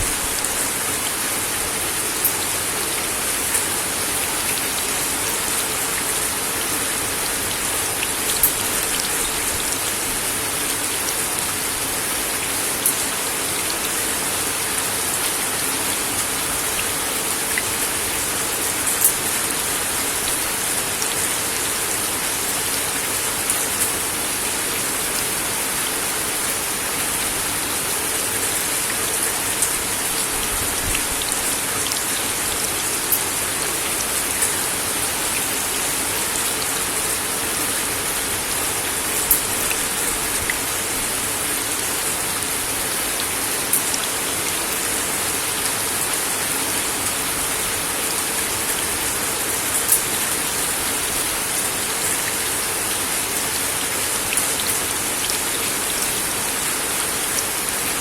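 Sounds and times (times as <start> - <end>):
rain on a wooden deck: 0.0 - 58.0.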